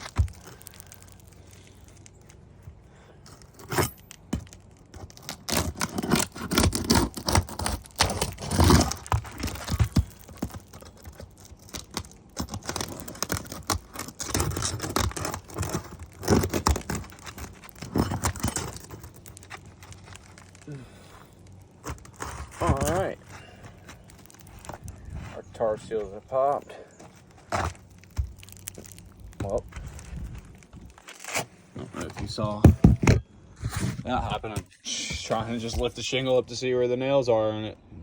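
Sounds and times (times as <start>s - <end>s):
tar seal snapping: 0.0s - 25.1s, 25.8s - 31.5s
roof shingle scraping and tearing: 0.0s - 36.6s.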